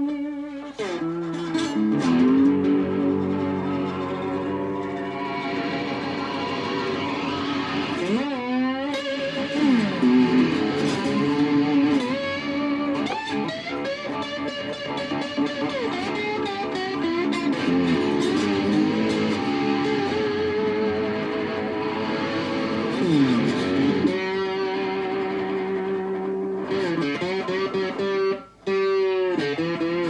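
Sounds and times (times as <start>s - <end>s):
electric slide guitar: 0.0s - 30.0s.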